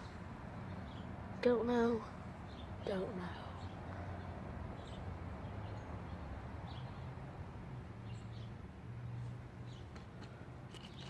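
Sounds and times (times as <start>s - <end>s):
low outdoor rumble: 0.0s - 10.7s.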